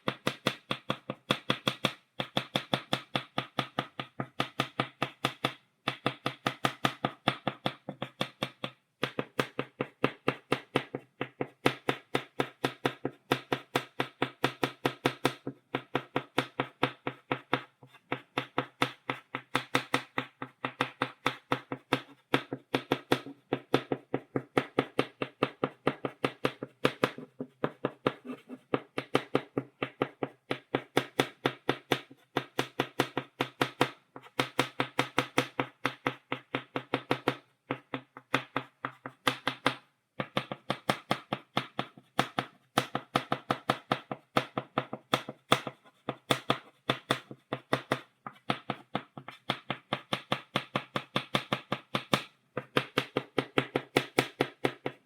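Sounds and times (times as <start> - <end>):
chalk tapping on blackboard: 0.0 - 55.0.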